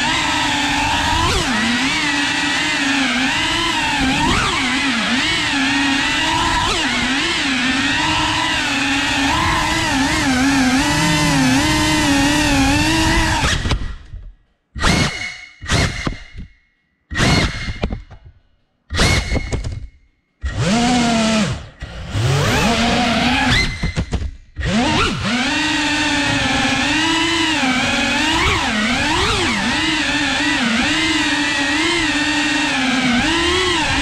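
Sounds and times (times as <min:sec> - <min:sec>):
drone motors and propellers whining: 0:00.0 - 0:14.2, 0:20.4 - 0:34.0.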